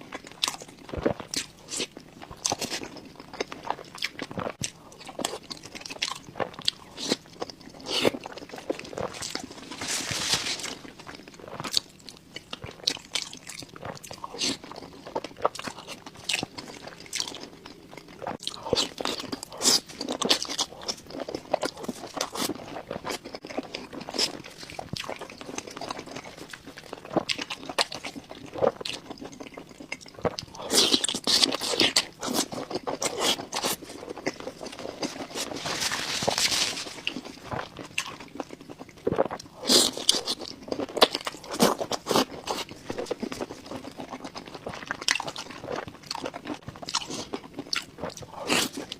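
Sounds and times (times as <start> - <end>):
crunchy chewing: 0.0 - 48.9.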